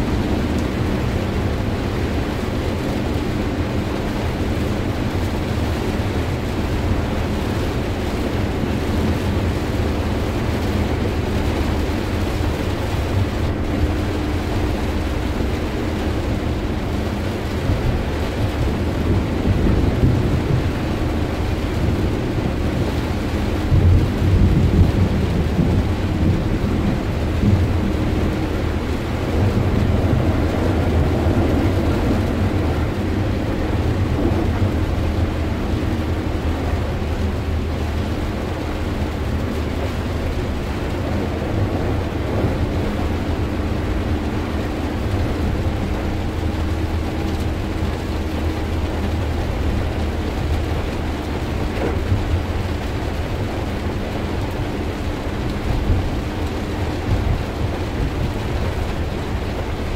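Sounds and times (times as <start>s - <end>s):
heavy rain on car roof: 0.0s - 59.9s
tyre and engine rumble: 0.0s - 59.9s.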